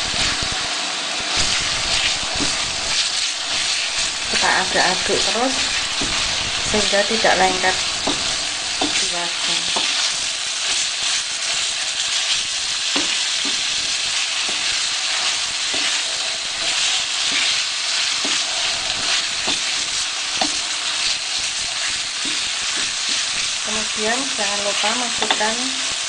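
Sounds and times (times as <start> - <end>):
food sizzling in a wok: 0.0 - 26.0
spatula scraping a wok: 1.2 - 26.0.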